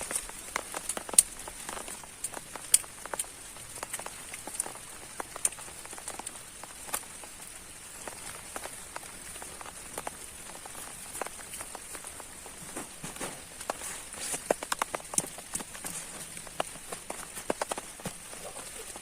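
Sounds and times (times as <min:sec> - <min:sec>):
heavy rain falling: 0:00.0 - 0:19.0
sharp raindrops striking nearby: 0:00.0 - 0:19.0.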